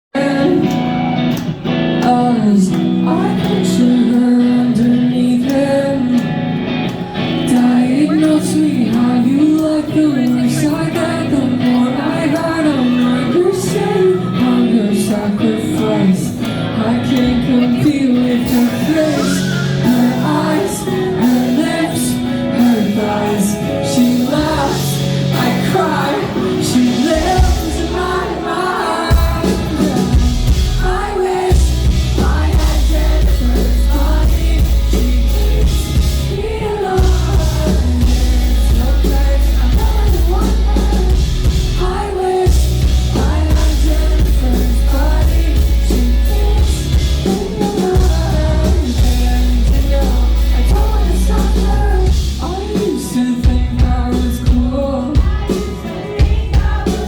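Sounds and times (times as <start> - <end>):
woman singing pop song: 0.2 - 1.1, 2.0 - 6.5, 7.2 - 57.0
heavy bass: 0.2 - 55.6
backing track with steady beat: 0.2 - 57.0.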